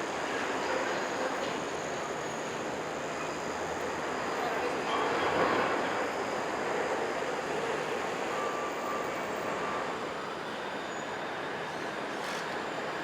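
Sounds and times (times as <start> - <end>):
city traffic: 0.0 - 13.0.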